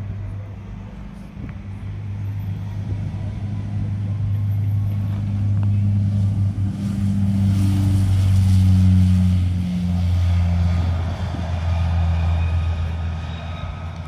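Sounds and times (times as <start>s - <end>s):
engine running with low hum: 0.0s - 14.0s.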